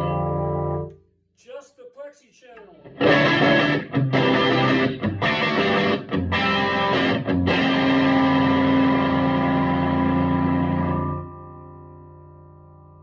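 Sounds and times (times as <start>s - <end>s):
electric guitar chords: 0.0s - 1.0s, 2.8s - 13.0s.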